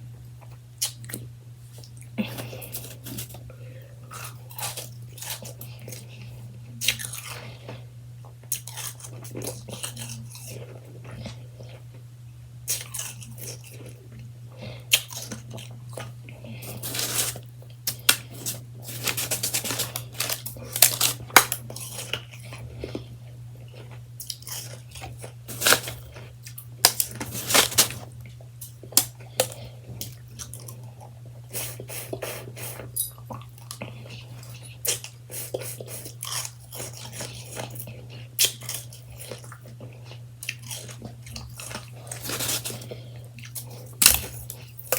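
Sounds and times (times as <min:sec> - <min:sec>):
steady low hum: 0:00.0 - 0:44.9
chewing shaved ice: 0:00.4 - 0:12.0, 0:12.6 - 0:44.9.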